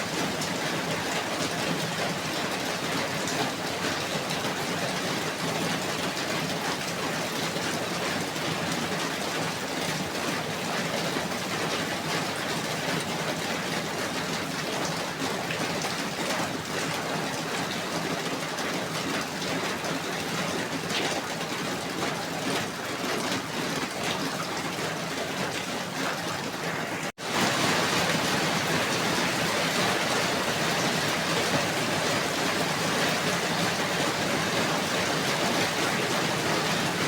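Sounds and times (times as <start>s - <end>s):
steady falling rain: 0.0s - 37.0s.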